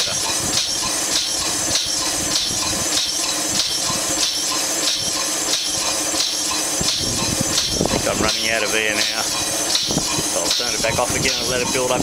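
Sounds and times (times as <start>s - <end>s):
air compressor droning: 0.0s - 12.0s.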